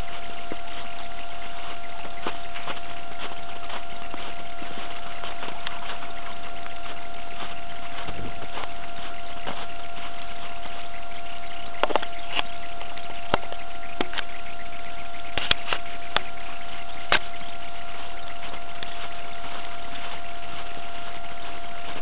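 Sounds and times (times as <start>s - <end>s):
constant high whine: 0.0s - 22.0s
footsteps crunching in snow: 0.0s - 22.0s.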